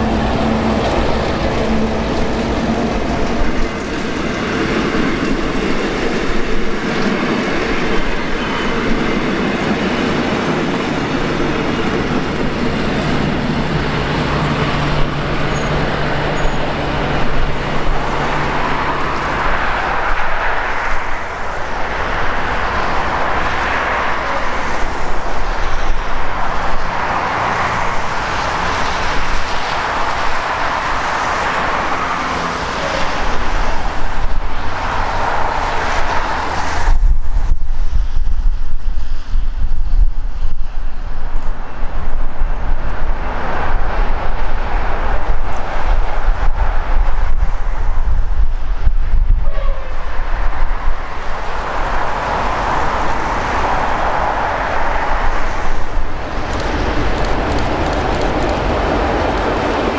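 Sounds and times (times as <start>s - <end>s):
train wheels clattering on track: 0.0s - 39.8s, 41.2s - 59.9s.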